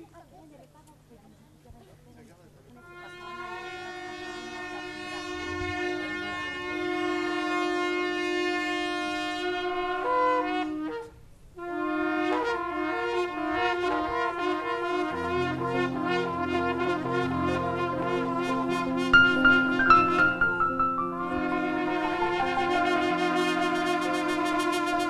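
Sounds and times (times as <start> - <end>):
brass instrument solo: 2.8 - 25.0.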